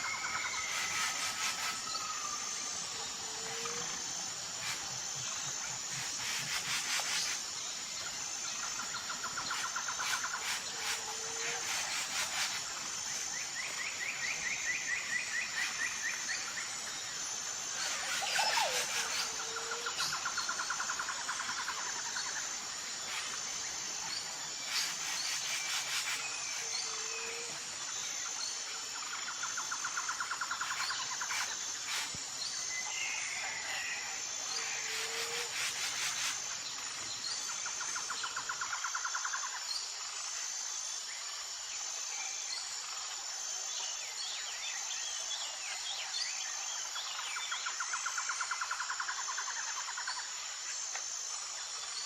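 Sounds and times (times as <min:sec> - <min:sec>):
high pulsing insect drone: 0:00.0 - 0:52.0.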